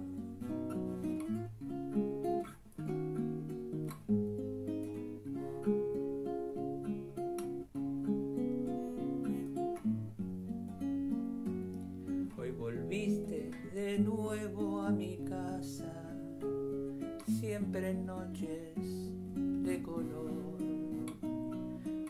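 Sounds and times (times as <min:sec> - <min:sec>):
classical guitar fingerpicking: 0:00.0 - 0:22.0.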